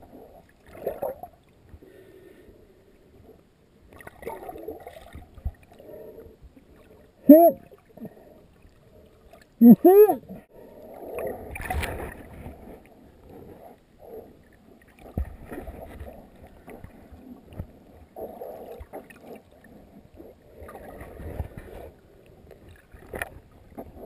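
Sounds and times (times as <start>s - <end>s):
water sloshing and gurgling: 0.0s - 24.0s.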